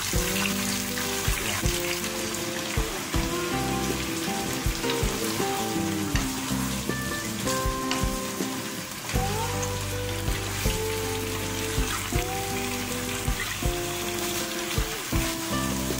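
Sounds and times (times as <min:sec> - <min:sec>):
background music: 0:00.0 - 0:15.9
vegetables sizzling in a frying pan: 0:00.0 - 0:15.9.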